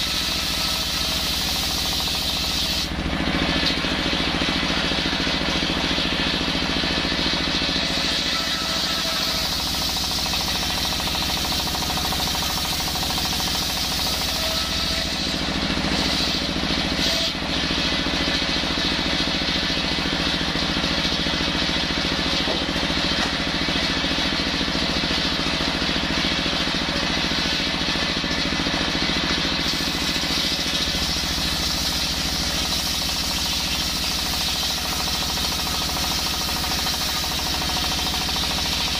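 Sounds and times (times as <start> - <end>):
diesel engine running: 0.0 - 8.0, 8.6 - 38.9
circular saw cutting wood: 0.0 - 38.9.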